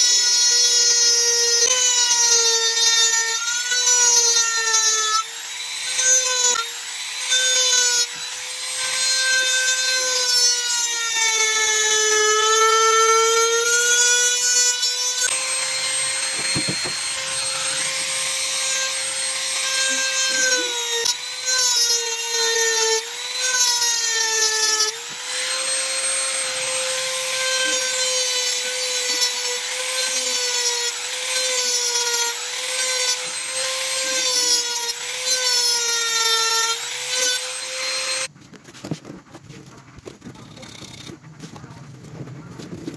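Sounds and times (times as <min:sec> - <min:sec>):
router motor whine: 0:00.0 - 0:38.3
wood being cut: 0:00.0 - 0:42.9.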